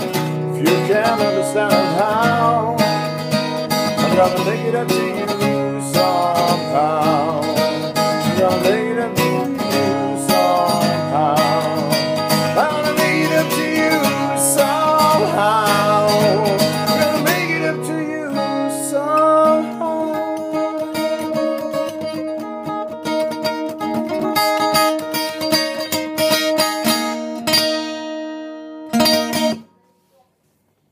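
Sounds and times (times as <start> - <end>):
bending guitar melody: 0.0 - 29.7
guitar held chords: 0.0 - 30.1.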